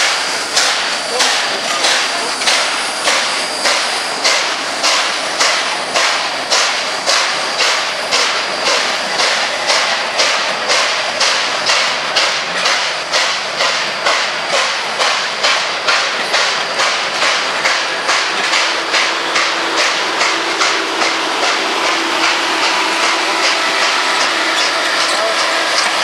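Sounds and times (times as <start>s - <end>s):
steam locomotive chuffing: 0.0s - 26.0s.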